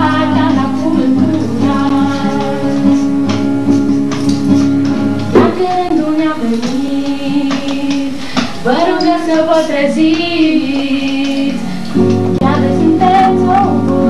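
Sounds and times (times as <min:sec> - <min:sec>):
woman singing: 0:00.0 - 0:03.1, 0:05.4 - 0:14.0
strummed acoustic guitar: 0:00.0 - 0:14.0.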